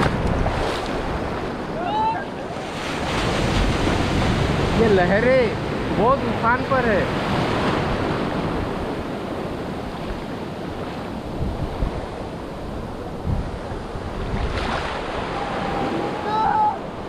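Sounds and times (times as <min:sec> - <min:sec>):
surf breaking on beach: 0:00.0 - 0:17.0
wind rumbling on microphone: 0:00.0 - 0:17.0.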